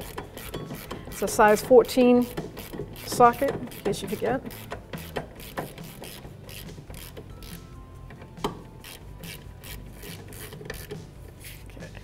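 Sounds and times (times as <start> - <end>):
hand ratchet clicking: 0.0 - 11.6.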